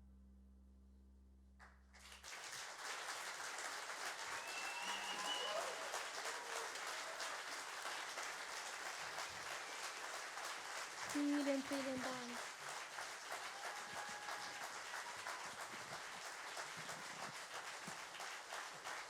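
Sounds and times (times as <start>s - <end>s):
audience applause: 2.0s - 19.0s.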